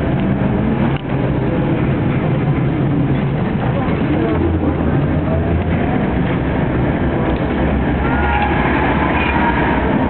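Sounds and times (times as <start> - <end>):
tram rumble and motor hum: 0.0 - 10.0.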